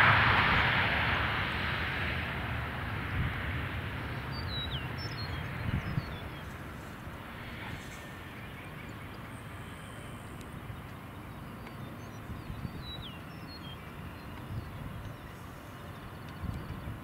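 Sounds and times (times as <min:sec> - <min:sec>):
distant jet engines rumbling: 0:00.0 - 0:17.0
birds chirping: 0:02.9 - 0:17.0.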